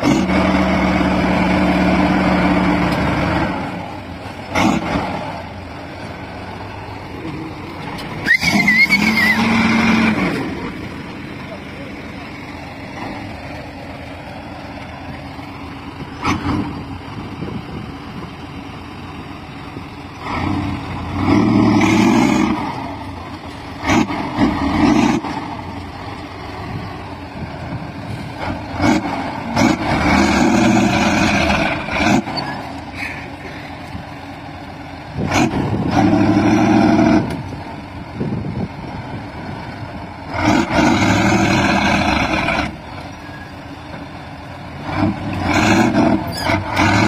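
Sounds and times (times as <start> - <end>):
tractor diesel engine revving: 0.0 - 47.0.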